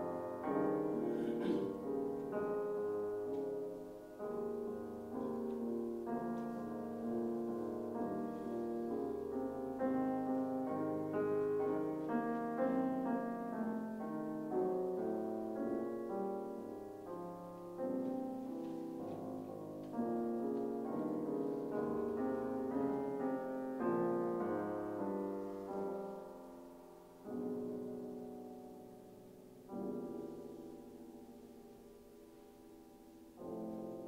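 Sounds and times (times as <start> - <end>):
piano chords: 0.0 - 34.0.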